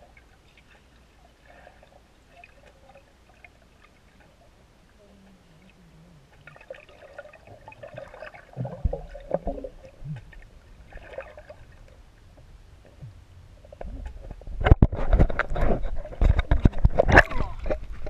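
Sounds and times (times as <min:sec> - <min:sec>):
underwater sloshing and gurgling: 0:00.0 - 0:18.0.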